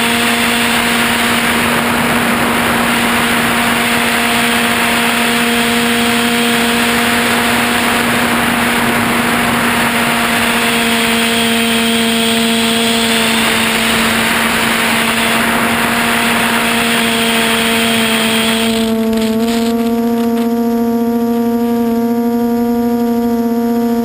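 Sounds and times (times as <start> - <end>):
rushing air noise: 0.0 - 19.4
drone motors whining: 0.0 - 23.0.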